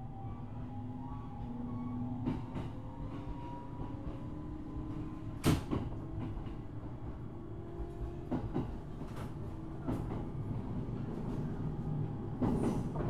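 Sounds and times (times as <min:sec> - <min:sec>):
train wheels rumbling: 0:00.2 - 0:13.0.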